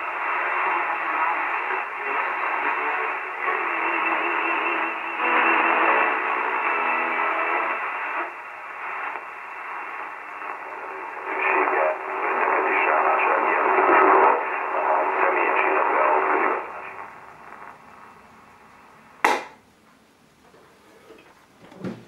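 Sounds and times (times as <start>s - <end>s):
steady radio tones: 0.0s - 19.6s
noisy am radio reception: 0.0s - 19.7s.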